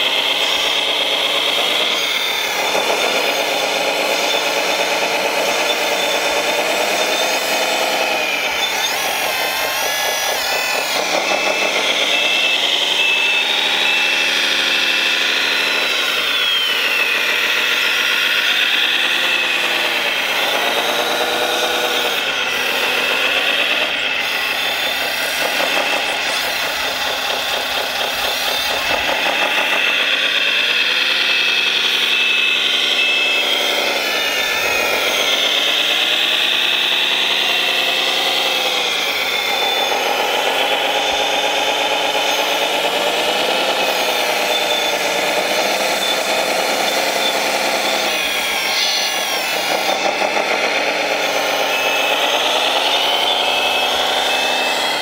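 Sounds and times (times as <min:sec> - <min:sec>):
electric motor and hydraulic whine: 0:00.0 - 0:55.0.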